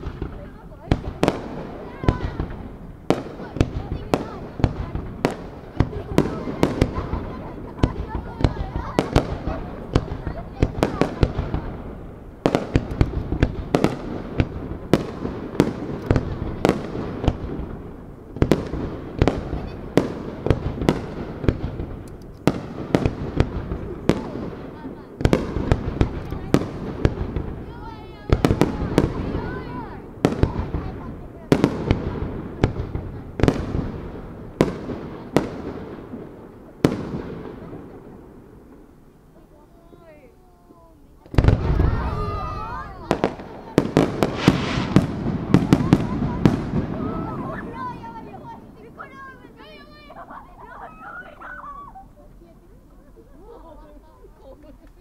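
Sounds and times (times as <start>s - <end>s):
fireworks bursting with sharp bangs: 0.0s - 55.0s.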